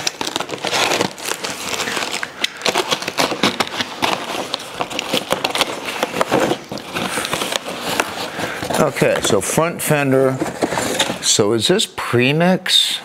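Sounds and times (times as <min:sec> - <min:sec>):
bubble wrap and cardboard rustling: 0:00.0 - 0:11.6.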